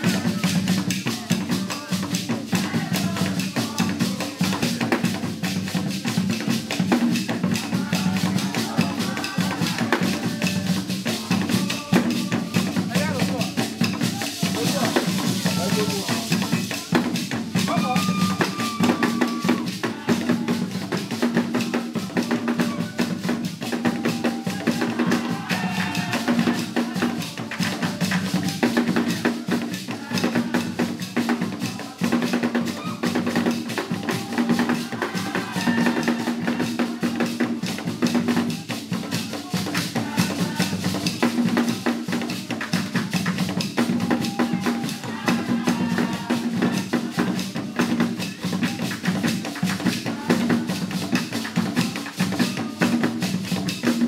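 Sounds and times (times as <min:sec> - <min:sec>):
drums playing fast rhythm: 0:00.0 - 0:54.0.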